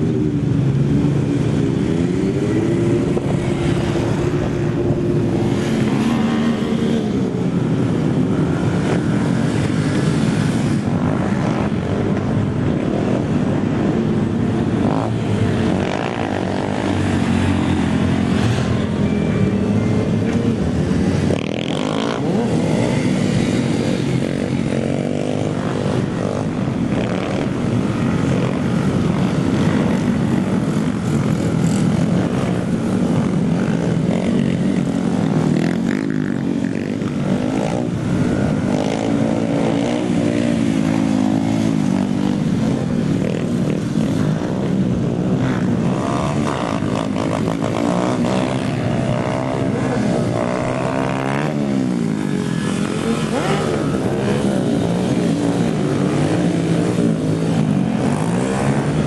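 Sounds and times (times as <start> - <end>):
pit bike engines revving: 0.0 - 59.0.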